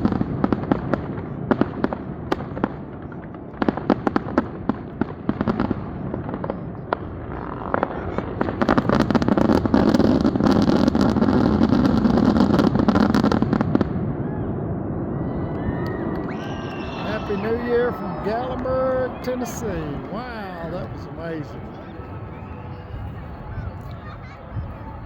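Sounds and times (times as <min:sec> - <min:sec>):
fireworks popping and cracking: 0:00.0 - 0:14.0, 0:15.5 - 0:24.3.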